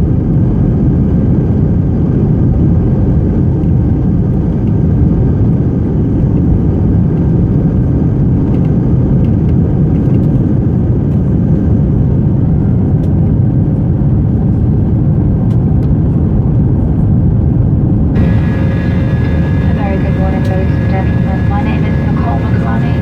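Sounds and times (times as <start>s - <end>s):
jet engine cabin rumble: 0.1s - 23.0s.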